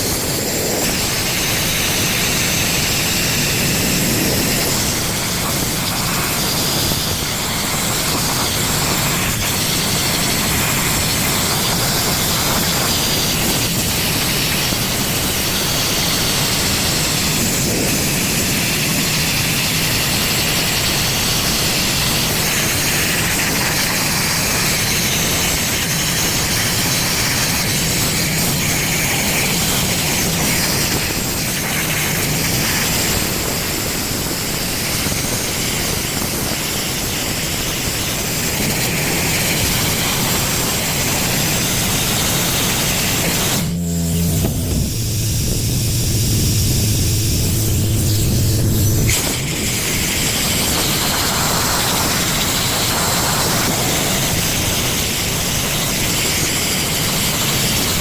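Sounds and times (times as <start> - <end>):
sandblaster hissing: 0.0 - 58.0.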